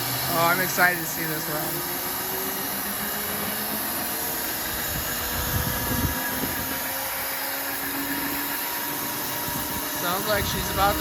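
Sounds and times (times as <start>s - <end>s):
machinery running with whine: 0.0s - 11.0s.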